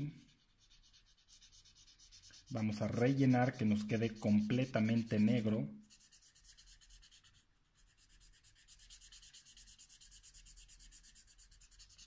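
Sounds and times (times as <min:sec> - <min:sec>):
drawing strokes on paper: 0:00.0 - 0:12.0.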